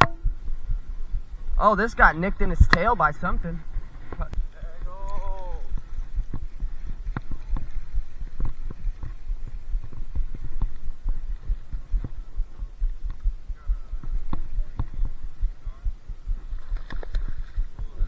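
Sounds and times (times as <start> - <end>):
thumping and rubbing on microphone: 2.4 - 4.9, 5.7 - 18.0.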